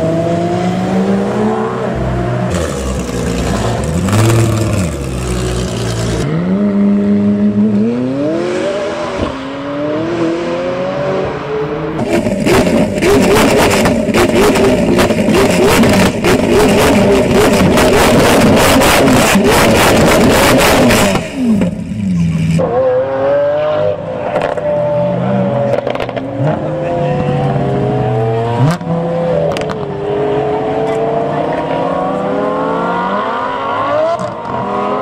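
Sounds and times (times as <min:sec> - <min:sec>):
car engine revving: 0:00.0 - 0:35.0
supercars accelerating away: 0:00.0 - 0:35.0.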